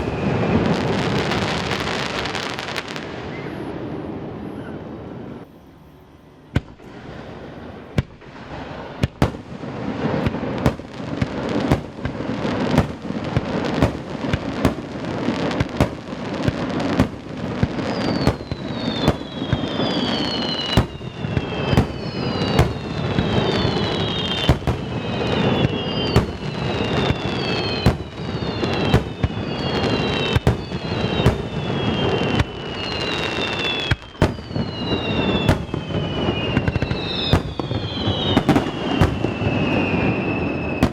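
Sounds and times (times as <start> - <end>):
fireworks banging with echo: 0.0 - 4.6, 6.6 - 40.9
falling firework whistles: 0.0 - 5.5, 6.6 - 40.9.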